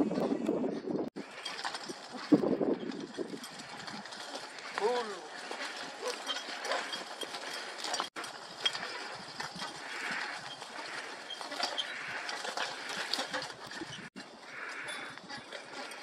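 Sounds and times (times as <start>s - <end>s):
harness clinking and creaking: 1.1s - 16.0s
plough scraping soil: 1.1s - 16.0s
leaves rustling: 1.2s - 16.0s.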